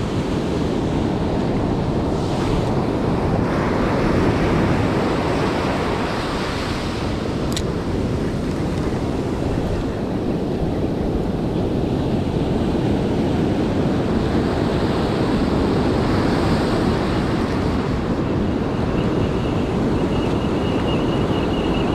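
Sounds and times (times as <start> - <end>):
ocean surf breaking on sand: 0.0 - 21.9.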